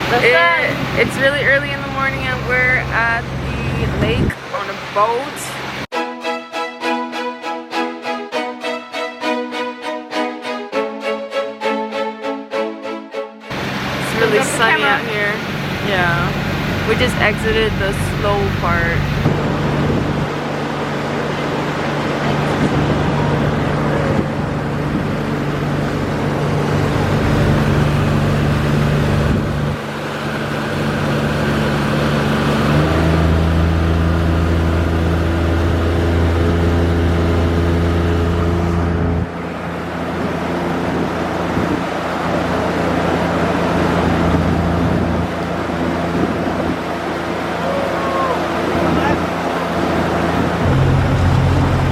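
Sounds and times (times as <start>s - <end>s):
motorboat engine running: 0.0s - 5.9s, 13.5s - 51.9s
wind and water rush: 0.0s - 5.9s, 6.8s - 51.9s.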